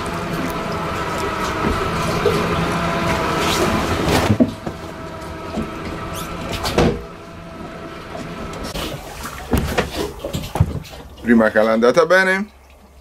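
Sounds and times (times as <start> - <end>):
boat motor hum: 0.0 - 13.0.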